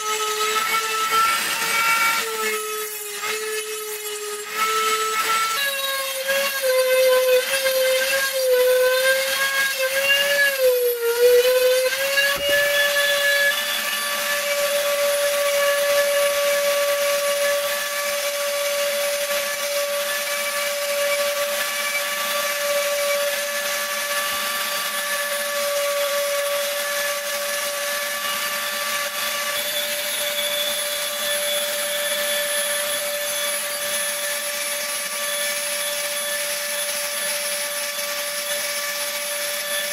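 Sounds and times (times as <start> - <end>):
rotary tool motor whine: 0.0 - 39.9.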